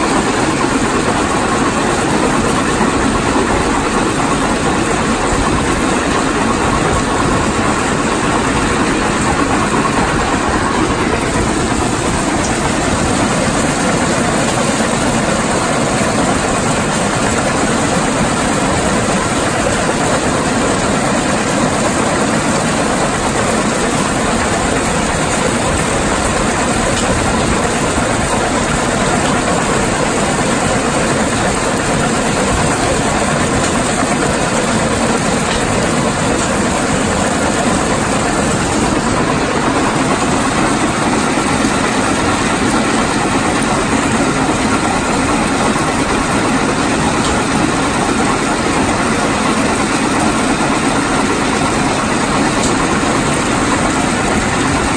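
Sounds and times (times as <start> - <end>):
conveyors running: 0.0 - 54.9
rock crusher running: 0.0 - 54.9.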